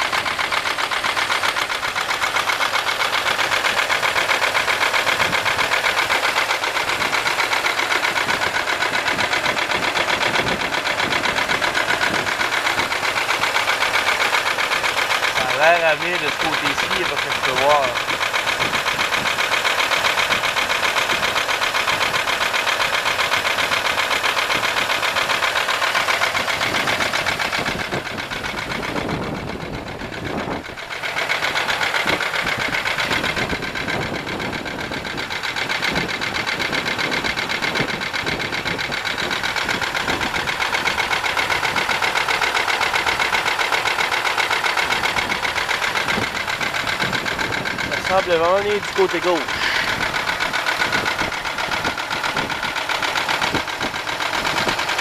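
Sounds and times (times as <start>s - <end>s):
engine running with rapid knock: 0.0s - 55.0s.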